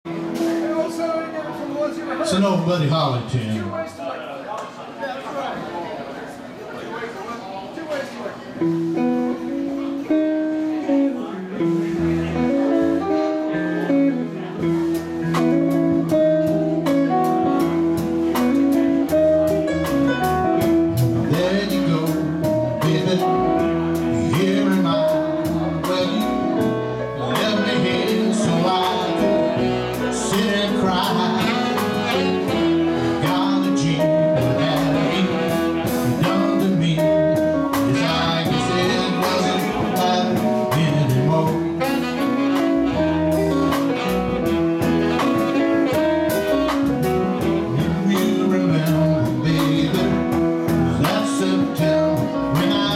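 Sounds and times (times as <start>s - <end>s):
live band playing blues: 0.1s - 4.0s, 7.9s - 52.9s
saxophone lead: 8.6s - 52.9s.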